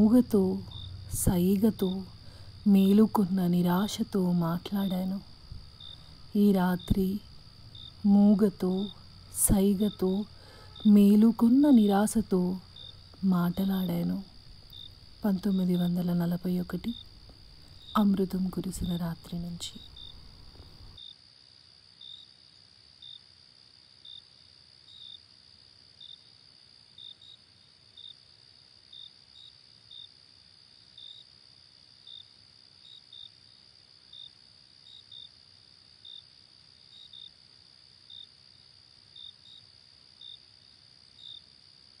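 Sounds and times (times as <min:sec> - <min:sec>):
crickets chirping: 0:00.0 - 0:42.0.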